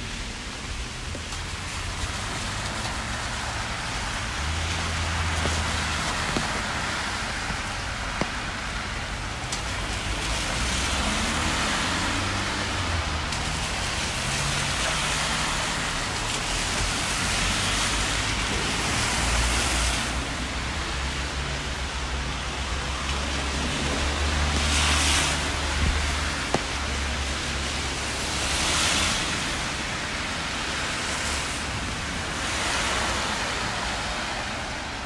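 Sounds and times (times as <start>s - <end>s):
rain on a wet street: 0.0s - 35.0s.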